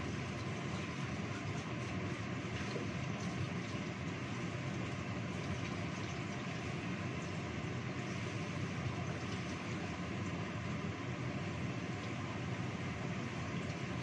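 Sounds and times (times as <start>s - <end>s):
gas burner rumbling hiss: 0.0s - 14.0s.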